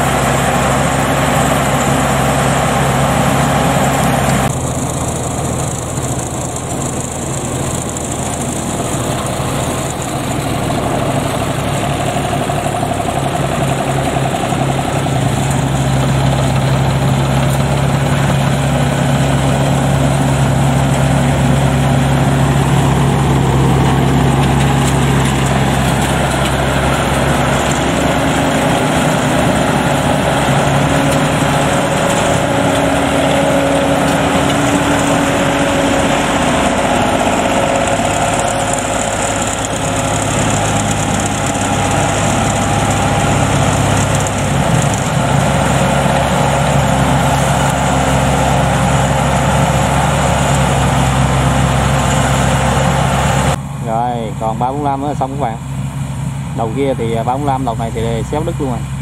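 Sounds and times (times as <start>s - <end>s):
harvester engines running: 0.0s - 59.0s.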